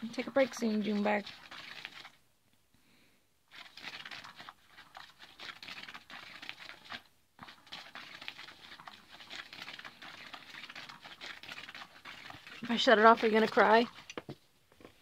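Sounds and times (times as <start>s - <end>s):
toy crinkly rustling with ticks: 0.1s - 2.2s, 3.5s - 14.2s.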